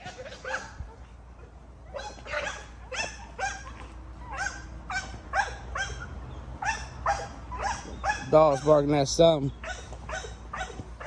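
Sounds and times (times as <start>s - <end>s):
dog barking: 0.0s - 0.8s, 1.9s - 8.8s, 9.6s - 10.9s.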